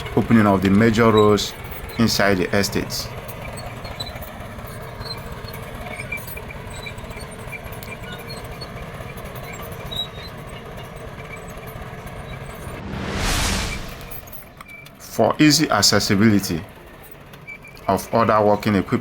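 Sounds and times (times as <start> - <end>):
bulldozer diesel engine rumble: 0.0 - 19.0.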